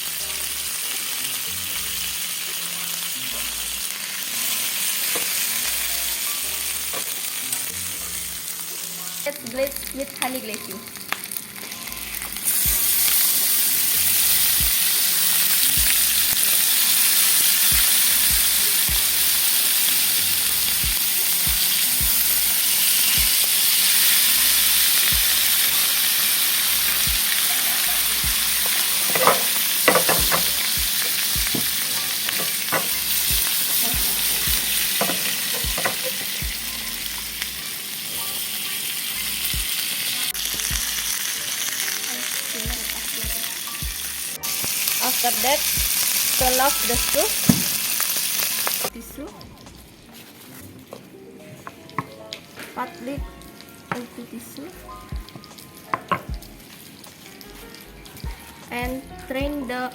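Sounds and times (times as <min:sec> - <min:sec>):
chicken sizzling in oil: 0:00.0 - 0:49.2, 0:52.6 - 0:58.6.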